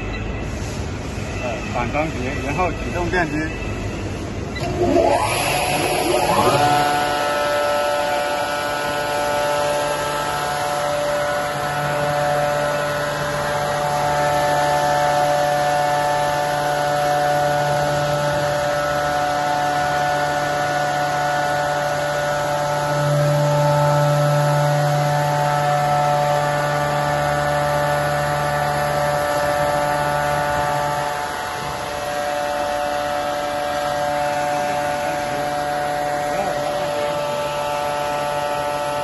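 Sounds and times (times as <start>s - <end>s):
spindle motors whining: 0.0s - 39.0s
low hum: 4.0s - 39.0s.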